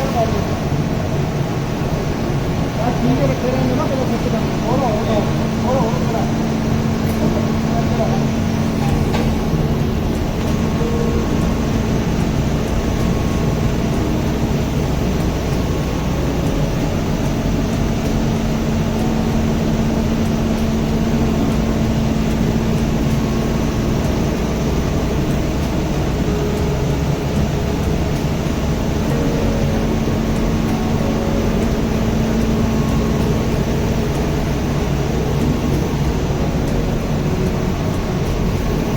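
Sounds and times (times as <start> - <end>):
machinery humming and droning: 0.0 - 38.9.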